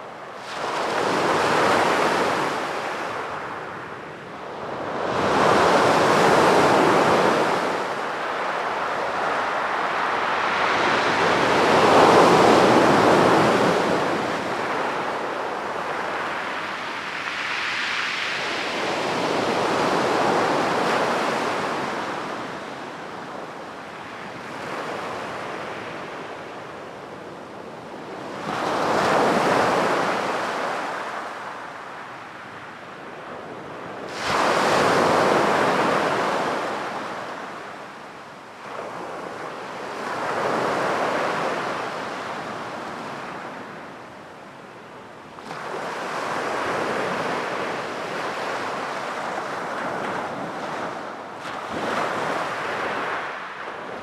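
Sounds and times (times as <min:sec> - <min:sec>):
ocean waves breaking on beach: 0:00.2 - 0:54.0.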